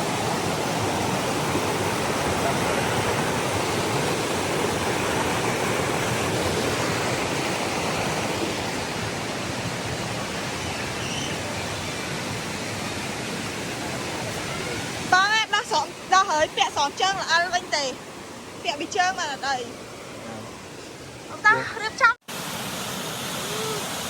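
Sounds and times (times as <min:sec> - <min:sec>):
waterfall and stream rushing: 0:00.0 - 0:24.0.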